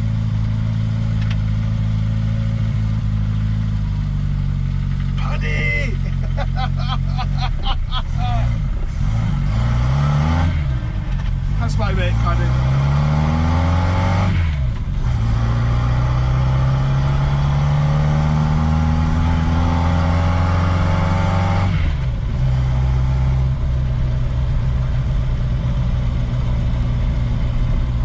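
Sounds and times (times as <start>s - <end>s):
car engine accelerating through gears: 0.0s - 28.0s.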